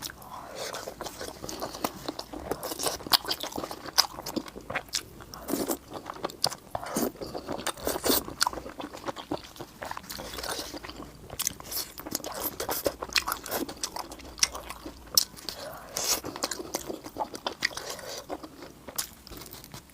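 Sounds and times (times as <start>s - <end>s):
person chewing crunchy food: 0.0s - 19.9s.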